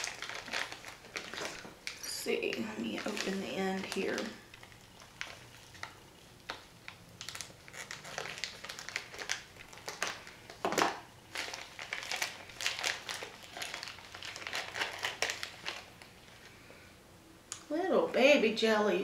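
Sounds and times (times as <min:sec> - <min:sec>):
wrapper tearing: 0:00.0 - 0:16.5
plastic wrapper crinkling: 0:00.0 - 0:16.7.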